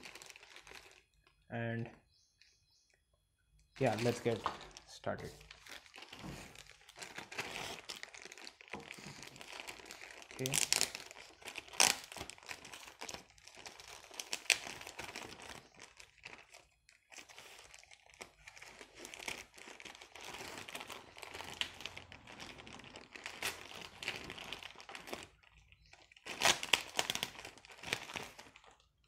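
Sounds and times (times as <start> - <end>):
packaging crinkling and crackling: 0.0 - 1.4, 3.7 - 29.0.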